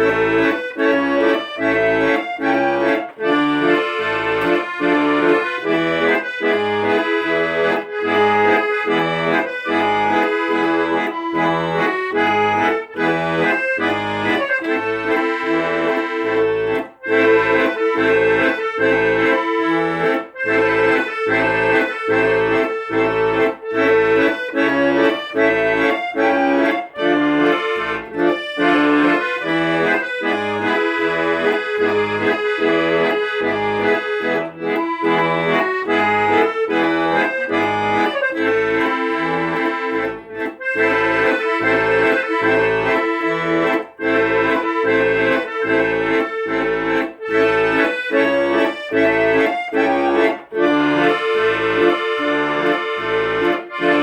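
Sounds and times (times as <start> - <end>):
accordion playing: 0.0 - 54.0.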